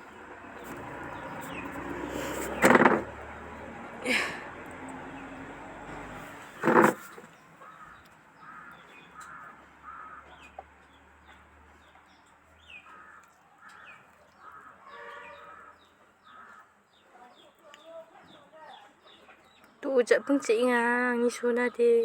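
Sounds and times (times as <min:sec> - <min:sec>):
small birds chirping: 0:00.0 - 0:03.5, 0:06.1 - 0:22.0.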